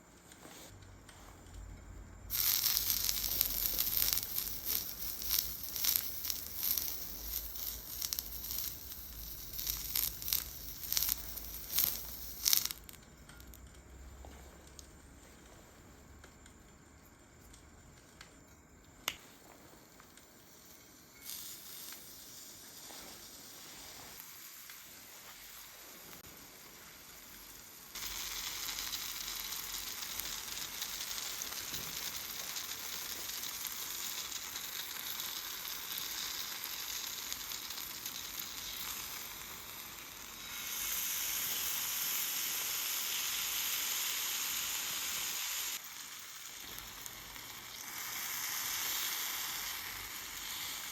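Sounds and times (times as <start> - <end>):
food sizzling: 2.3 - 13.6, 19.0 - 50.9.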